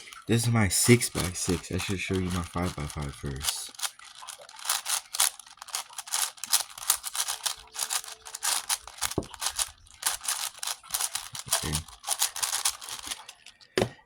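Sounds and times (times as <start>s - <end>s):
plastic puzzle cubes clicking: 0.0s - 13.9s.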